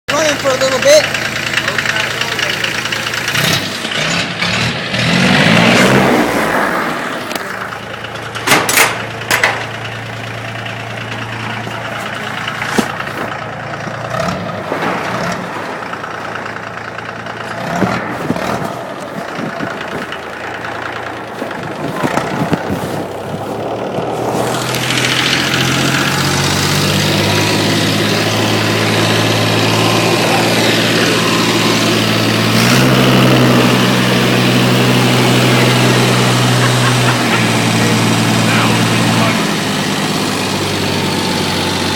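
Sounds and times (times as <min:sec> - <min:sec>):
tractor diesel engine running: 0:00.0 - 0:41.9
engine knocks: 0:00.1 - 0:05.1, 0:06.9 - 0:41.9.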